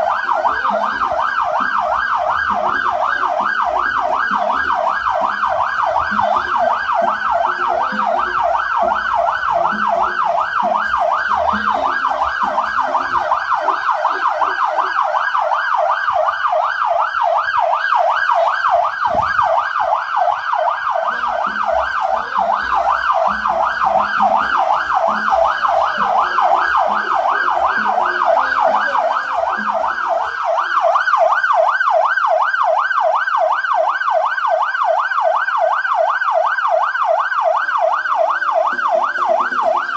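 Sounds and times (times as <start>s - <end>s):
electronic siren yelping: 0.0s - 39.9s.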